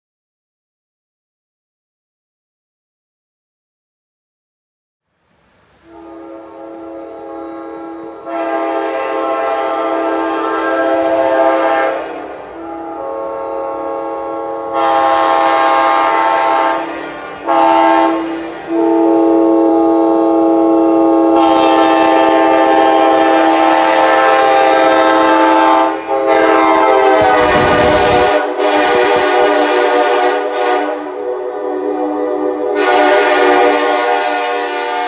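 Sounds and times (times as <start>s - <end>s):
locomotive air horn blasts: 5.4s - 35.0s.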